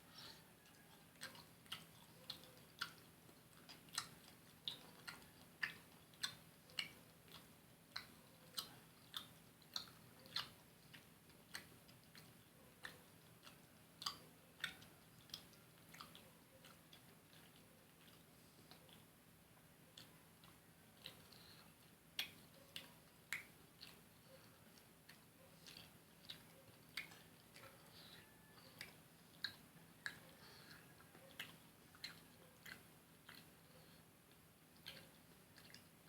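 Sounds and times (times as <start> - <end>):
person chewing: 0.0 - 36.0.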